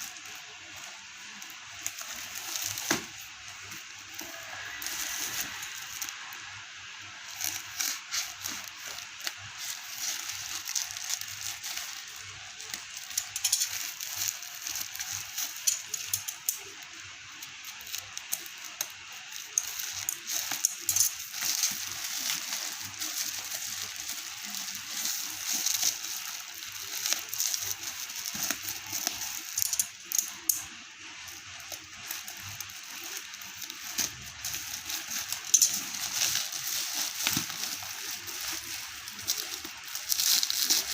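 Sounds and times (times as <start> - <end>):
packaging rustling and crinkling: 0.0 - 40.9
small sharp clicks and rattles: 7.3 - 40.9.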